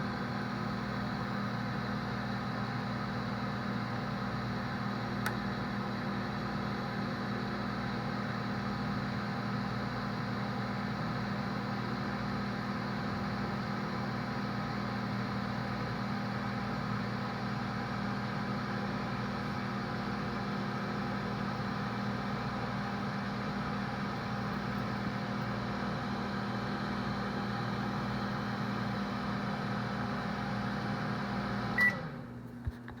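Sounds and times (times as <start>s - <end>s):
microwave beep: 0.0s - 32.3s
microwave oven humming: 0.0s - 33.0s.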